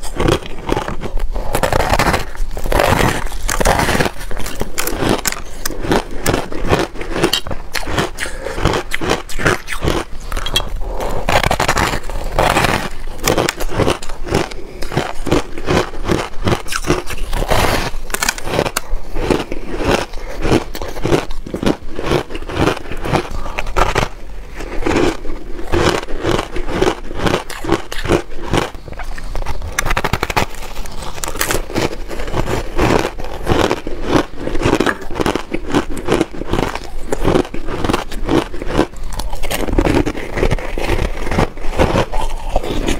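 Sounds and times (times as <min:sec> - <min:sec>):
crunching ice while chewing: 0:00.0 - 0:42.9.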